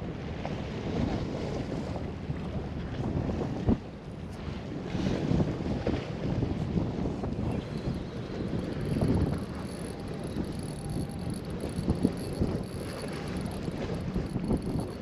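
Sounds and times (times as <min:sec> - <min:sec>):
sea washing against breakwater: 0:00.0 - 0:15.0
wind buffeting microphone: 0:00.0 - 0:15.0.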